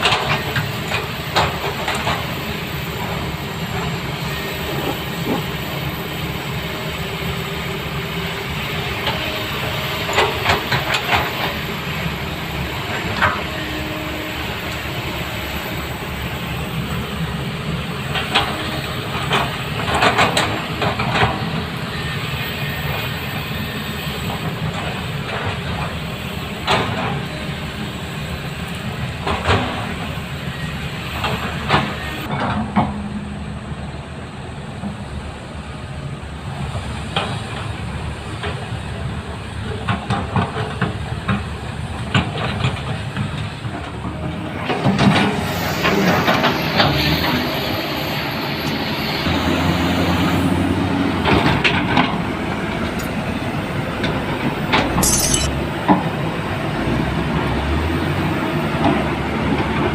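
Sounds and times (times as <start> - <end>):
metallic clanks and squeals of tracks: 0.0 - 34.1, 35.8 - 56.2
diesel engines running under load: 0.0 - 55.0, 55.6 - 59.9.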